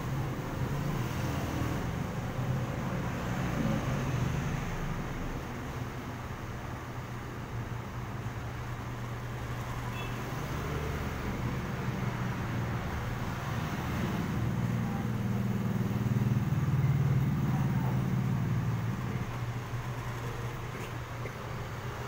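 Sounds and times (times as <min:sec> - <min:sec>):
traffic engine hum: 0:00.0 - 0:22.0.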